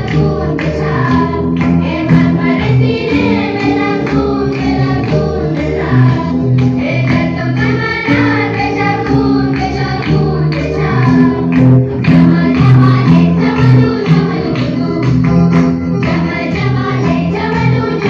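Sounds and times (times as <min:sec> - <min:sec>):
song with sung vocals: 0:00.0 - 0:18.0.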